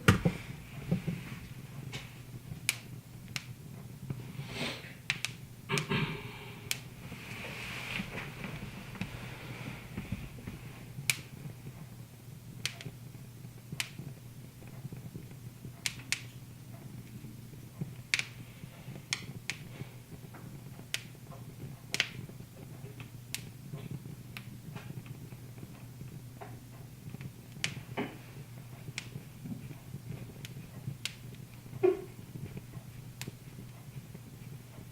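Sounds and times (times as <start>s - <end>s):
steady low hum: 0.0s - 34.9s
wood fire crackling: 0.0s - 34.9s.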